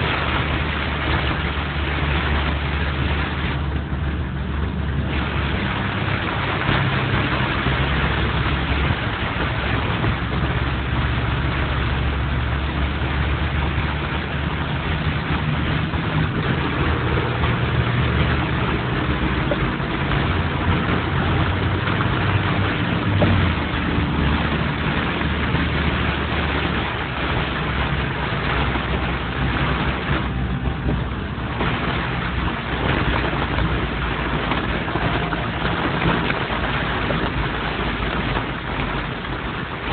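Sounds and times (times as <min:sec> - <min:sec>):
rain hiss: 0:00.0 - 0:39.9
tyres on wet road: 0:00.0 - 0:39.9
vehicle engine humming: 0:00.0 - 0:39.9.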